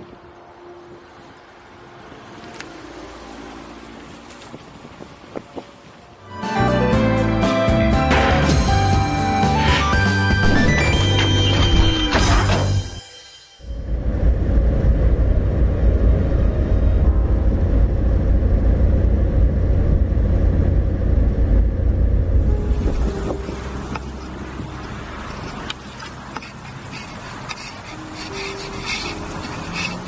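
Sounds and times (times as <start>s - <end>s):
road and engine rumble: 0.0s - 12.9s, 13.8s - 30.0s.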